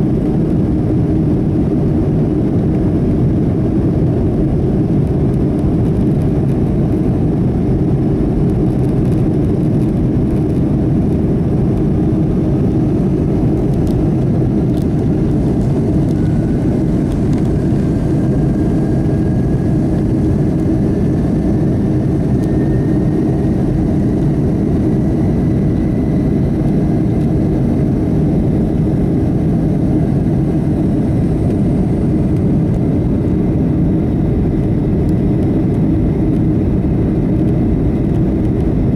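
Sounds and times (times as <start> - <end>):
jet engine rush in cabin: 0.0 - 38.9
faint rising whine: 5.3 - 38.9.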